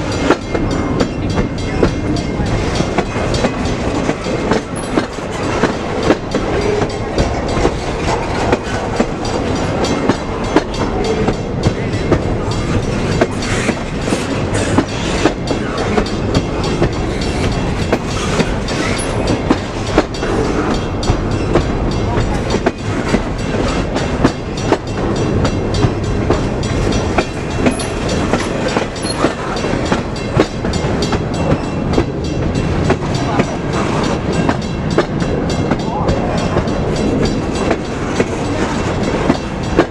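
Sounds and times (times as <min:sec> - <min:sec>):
freight train rumble: 0:00.0 - 0:39.9
train wheels clacking over rail joints: 0:00.0 - 0:39.9.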